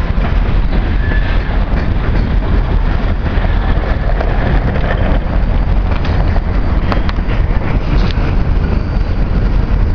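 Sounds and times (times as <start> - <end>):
freight train rolling on rails: 0.0 - 9.9.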